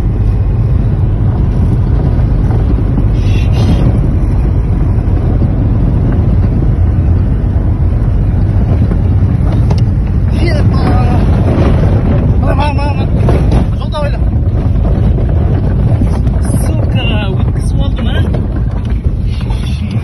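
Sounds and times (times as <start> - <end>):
engine and tyres rumbling: 0.0 - 20.0
wind noise on microphone: 0.0 - 20.0.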